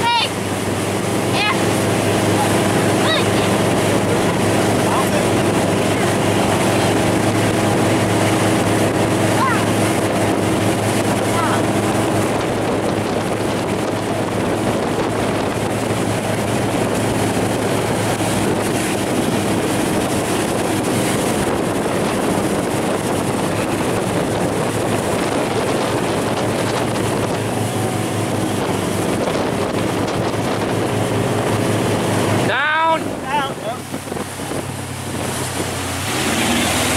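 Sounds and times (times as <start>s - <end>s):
motorboat engine running: 0.0s - 36.9s
rushing wake water: 0.0s - 36.9s
wind buffeting microphone: 0.0s - 36.9s.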